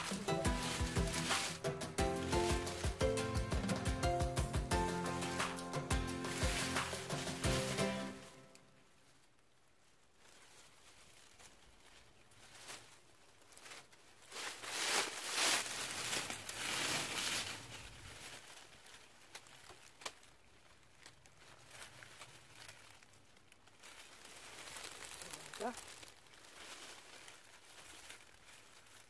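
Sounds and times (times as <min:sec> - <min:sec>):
dry leaves rustling and crackling: 0:00.0 - 0:29.0.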